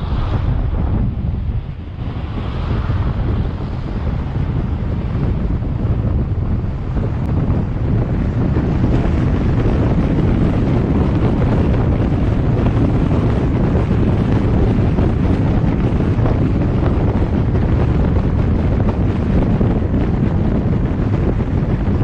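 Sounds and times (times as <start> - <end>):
low road rumble: 0.0 - 22.0
wind rushing over microphone: 0.0 - 22.0.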